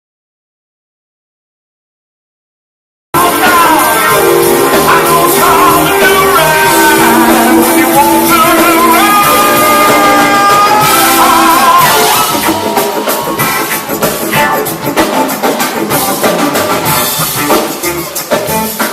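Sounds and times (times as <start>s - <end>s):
drums: 3.2s - 18.9s
live rock band with brass: 3.2s - 18.9s.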